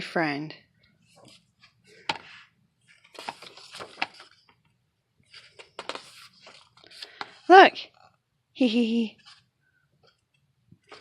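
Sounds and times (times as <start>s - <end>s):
paper pages rustling: 0.9s - 8.1s, 9.2s - 11.0s.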